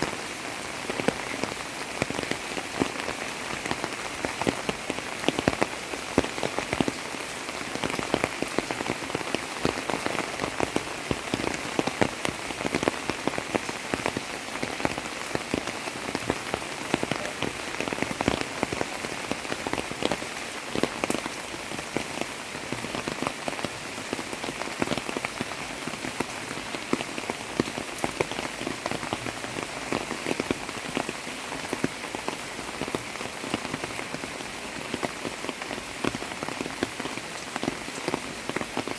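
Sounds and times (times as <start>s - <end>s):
heavy rain falling: 0.0s - 38.9s
raindrop hits: 0.0s - 38.9s.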